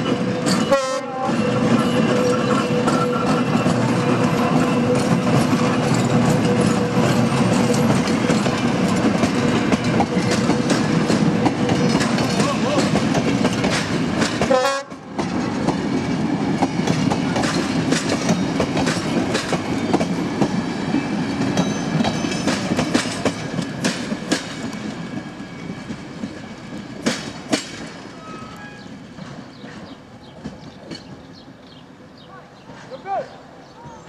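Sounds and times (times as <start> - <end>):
train wheels clicking over rail joints: 0.0 - 32.0.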